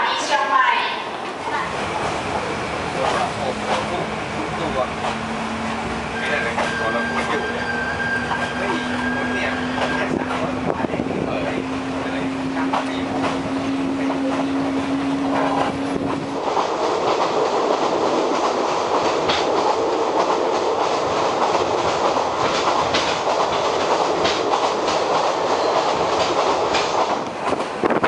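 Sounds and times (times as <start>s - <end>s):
train carriage rush and rumble: 0.0s - 28.0s.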